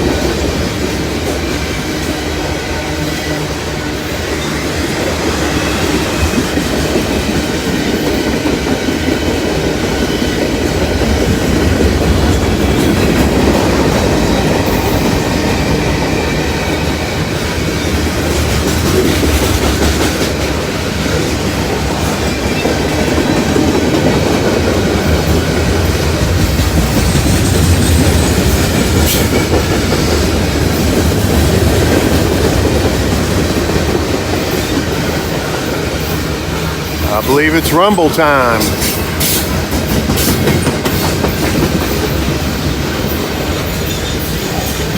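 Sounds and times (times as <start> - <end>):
clickety-clack over rail joints: 3.6 - 16.0, 16.7 - 37.0, 38.6 - 44.9.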